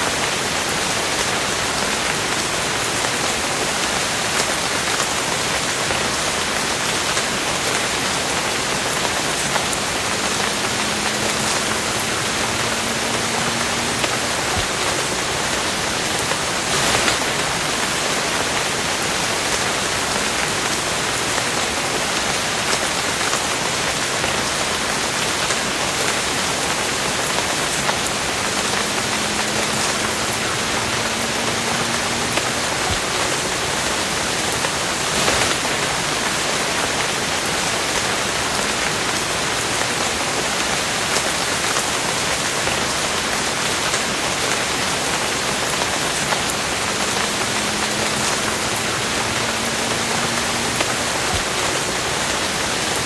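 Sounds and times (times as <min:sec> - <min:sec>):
rain hiss: 0:00.0 - 0:53.0
raindrop ticks: 0:00.1 - 0:53.0.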